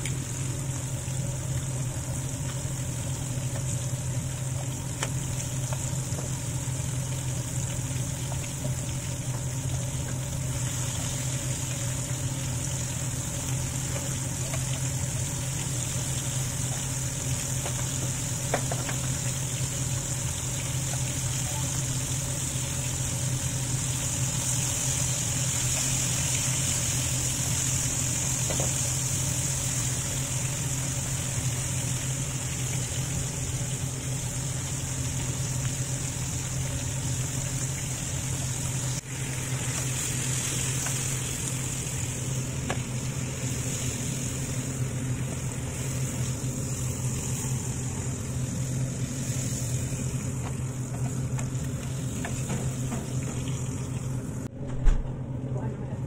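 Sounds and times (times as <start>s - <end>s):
beef deep-frying in oil: 0.0s - 54.9s
steady low hum: 0.0s - 56.0s.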